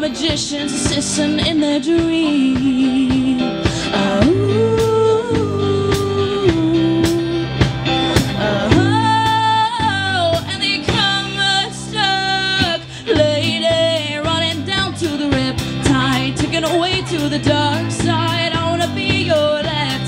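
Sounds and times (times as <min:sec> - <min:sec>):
bass guitar: 0:00.0 - 0:20.0
electric guitar: 0:00.0 - 0:20.0
steady drum beat: 0:00.0 - 0:20.0
woman singing wordless notes: 0:00.0 - 0:20.0.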